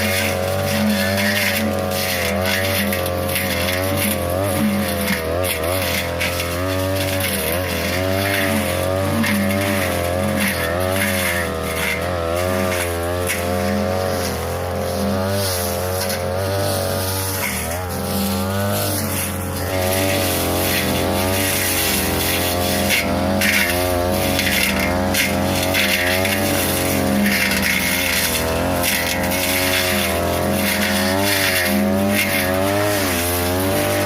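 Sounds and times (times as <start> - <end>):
brush cutter engine revving: 0.0 - 34.0.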